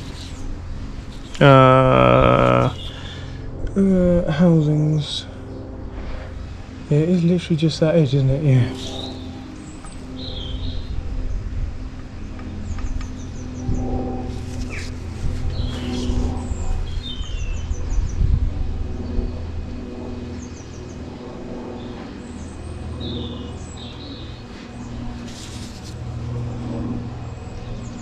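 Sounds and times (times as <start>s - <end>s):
small birds chirping: 0.0s - 5.7s, 6.3s - 11.1s, 12.0s - 18.3s, 20.2s - 28.0s
steady low hum: 0.0s - 28.0s.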